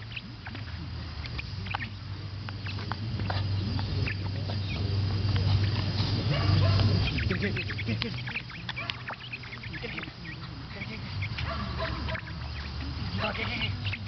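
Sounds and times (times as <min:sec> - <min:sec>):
low steady hum: 0:00.0 - 0:14.0
small dog playing: 0:00.0 - 0:14.0.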